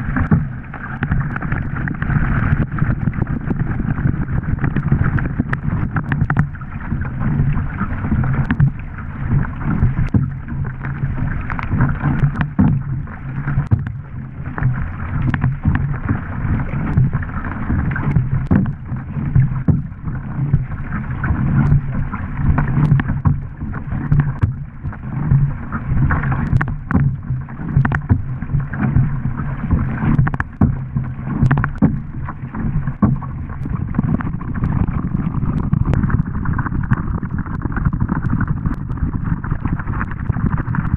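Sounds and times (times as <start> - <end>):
paddle splashes: 0.0 - 40.9
water rushing along a hull: 0.0 - 40.9.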